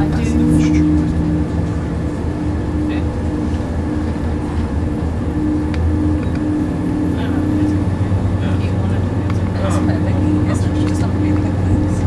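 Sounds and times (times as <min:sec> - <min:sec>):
train engine hum: 0:00.0 - 0:12.0.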